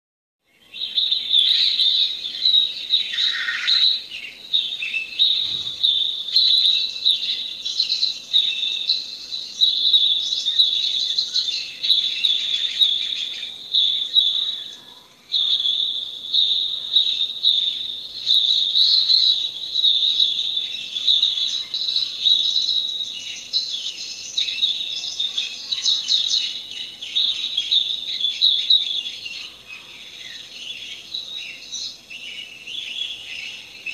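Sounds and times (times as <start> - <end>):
birds chirping: 0.4 - 33.9
insects trilling: 0.5 - 33.9.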